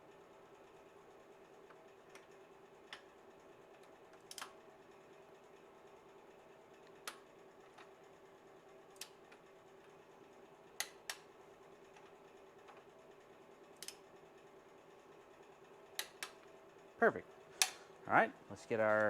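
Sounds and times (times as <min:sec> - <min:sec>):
steady faint hum: 0:00.0 - 0:19.0.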